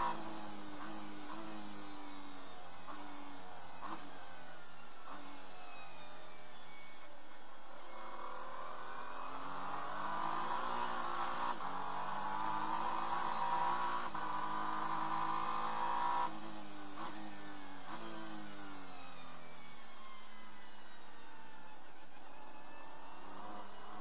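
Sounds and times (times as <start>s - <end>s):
race car engine accelerating: 0.0s - 24.0s.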